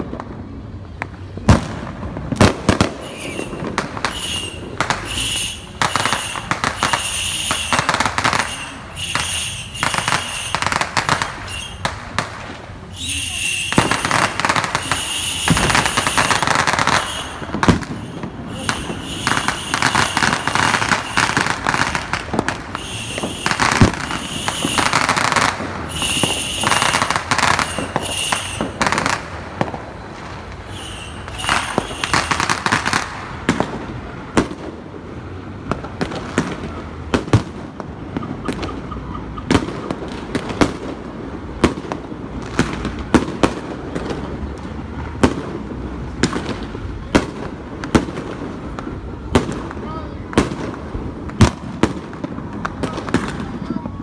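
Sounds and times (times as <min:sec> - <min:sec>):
fireworks bangs: 0:00.0 - 0:54.0
fireworks crackling and popping: 0:00.0 - 0:54.0.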